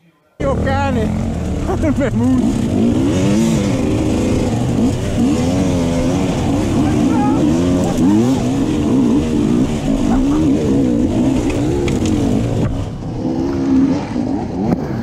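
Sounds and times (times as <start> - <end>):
dirt bike engine revving: 0.4 - 15.0.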